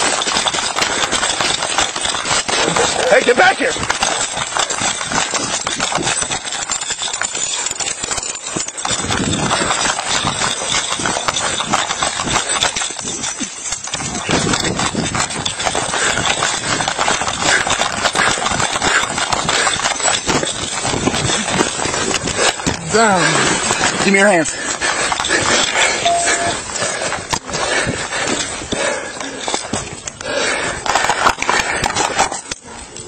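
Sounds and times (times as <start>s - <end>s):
running footfalls: 0.0s - 32.5s.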